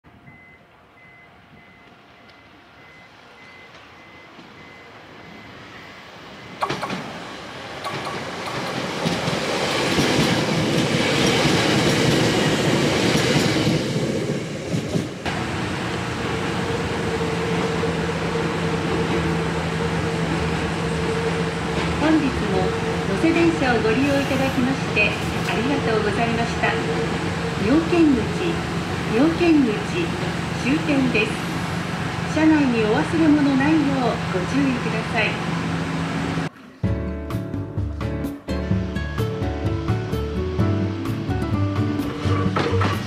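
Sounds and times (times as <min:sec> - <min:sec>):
electric train passing: 0:00.1 - 0:36.6, 0:39.2 - 0:43.0.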